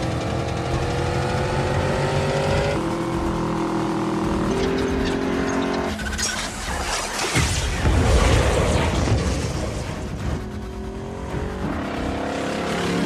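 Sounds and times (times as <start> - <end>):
car engine at high revs: 0.0 - 7.9, 9.4 - 13.0.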